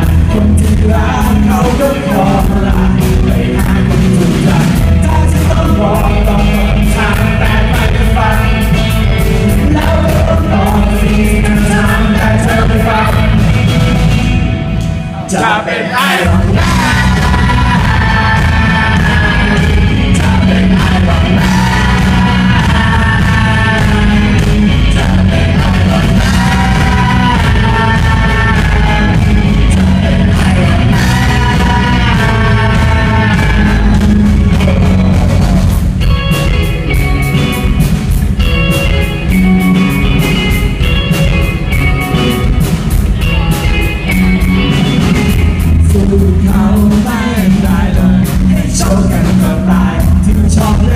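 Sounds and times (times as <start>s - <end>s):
man singing: 0.0s - 14.2s, 15.1s - 35.7s, 43.9s - 50.9s
rock band playing loudly: 0.0s - 50.9s.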